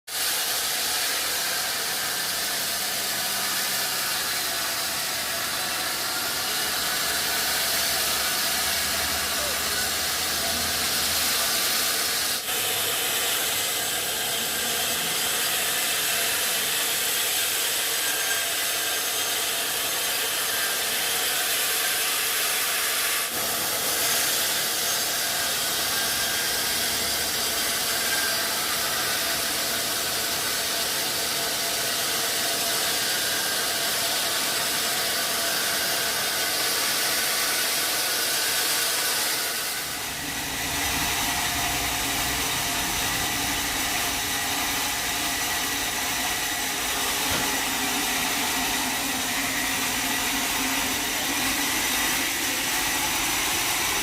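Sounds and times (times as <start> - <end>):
sawmill saw cutting wood: 0.1 - 54.0.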